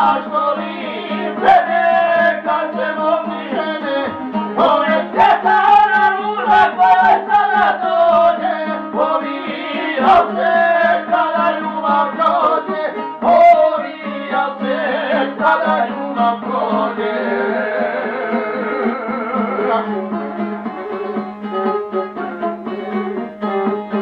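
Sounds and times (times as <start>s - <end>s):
man singing: 0.0s - 21.2s
plucked lute: 0.0s - 24.0s
violin: 0.0s - 24.0s.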